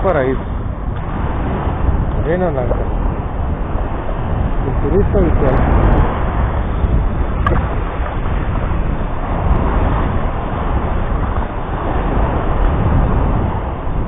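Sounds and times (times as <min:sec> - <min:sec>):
vehicle road and engine noise: 0:00.0 - 0:14.0.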